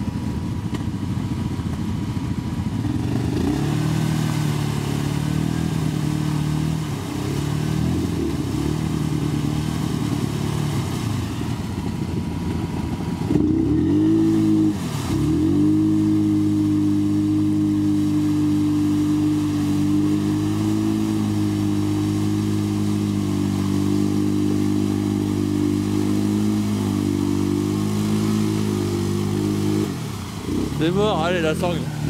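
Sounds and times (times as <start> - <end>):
quad bike engine revving: 0.0 - 32.0
wheels spinning in mud: 0.0 - 32.0.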